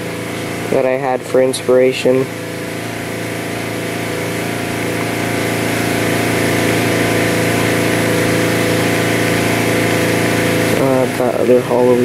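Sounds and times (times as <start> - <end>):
machine hum drone: 0.0 - 12.0.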